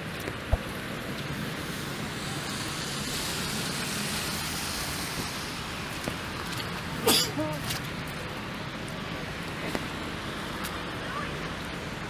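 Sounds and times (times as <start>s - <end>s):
tyres hissing on wet road: 0.3s - 12.0s
car passing: 0.7s - 12.0s.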